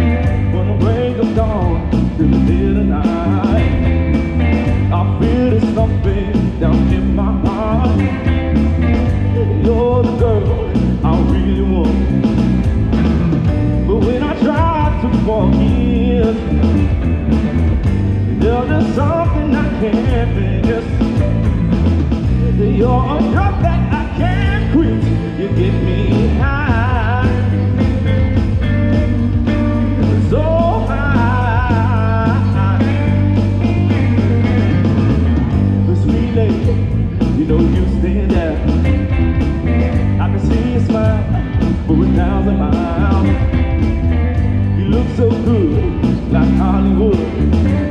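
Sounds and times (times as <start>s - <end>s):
person singing: 0.0s - 12.4s, 13.6s - 17.6s, 18.2s - 47.9s
rock and blues band playing: 0.0s - 47.9s.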